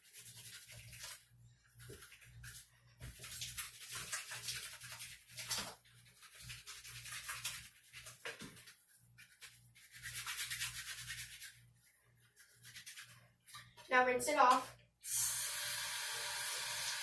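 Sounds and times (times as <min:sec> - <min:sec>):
hands scrubbing soap on phone: 0:00.0 - 0:14.6.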